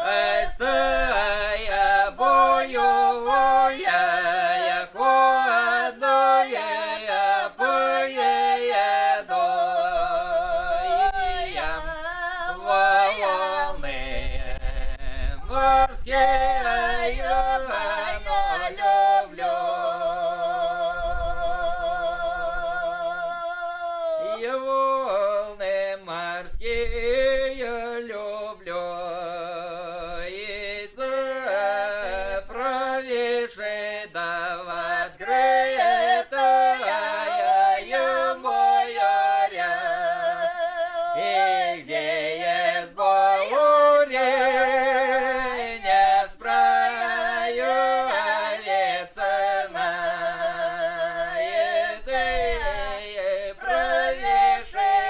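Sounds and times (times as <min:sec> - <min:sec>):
voices singing folk song: 0:00.0 - 0:55.0.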